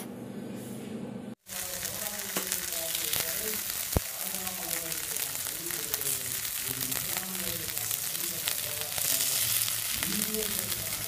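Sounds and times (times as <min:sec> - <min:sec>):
batter sizzling in hot oil: 0:01.4 - 0:11.0.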